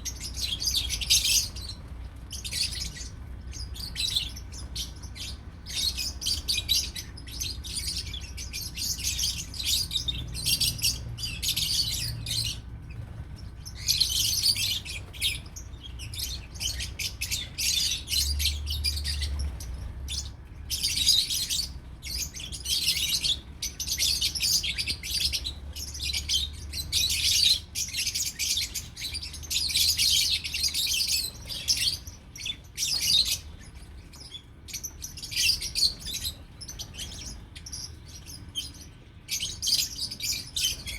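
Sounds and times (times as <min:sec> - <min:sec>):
lovebirds chattering and tweeting: 0:00.0 - 0:40.9.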